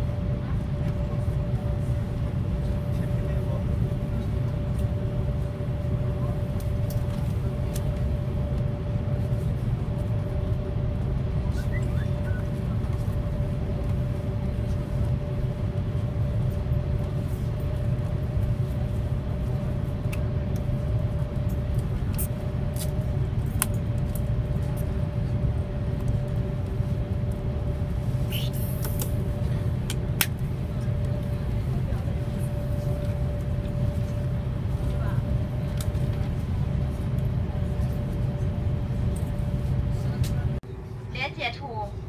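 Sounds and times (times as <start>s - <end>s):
constant hum: 0.0s - 42.0s.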